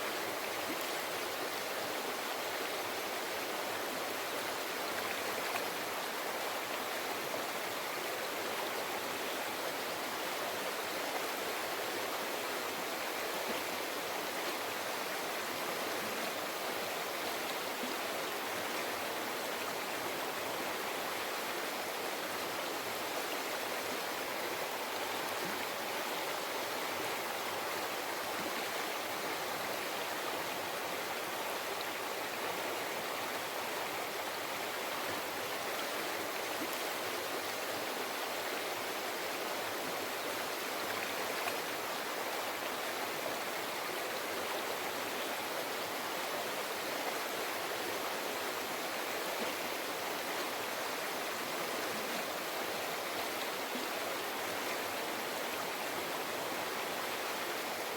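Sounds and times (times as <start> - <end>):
river flowing over rocks: 0.0 - 57.9.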